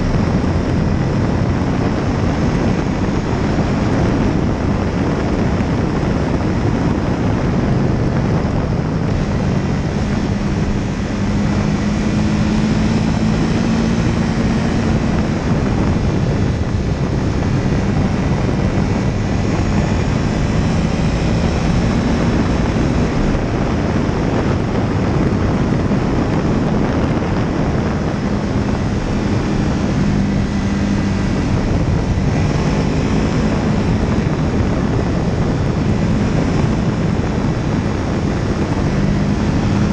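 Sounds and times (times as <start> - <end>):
propeller aircraft engine: 0.0 - 39.9
wind noise on microphone: 0.0 - 39.9.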